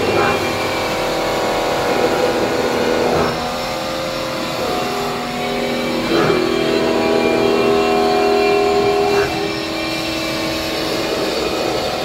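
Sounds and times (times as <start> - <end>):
machining center motor whine: 0.0 - 12.0.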